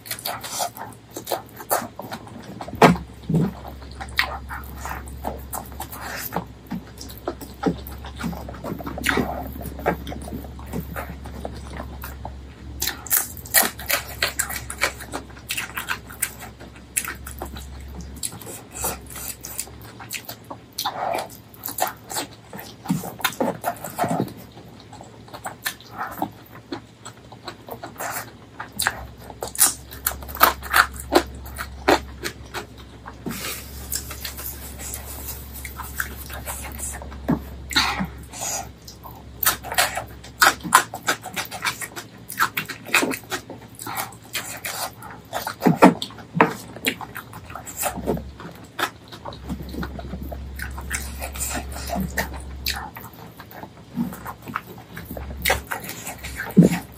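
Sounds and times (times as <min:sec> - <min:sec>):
wet chewing and lip smacks: 0:00.0 - 0:56.9.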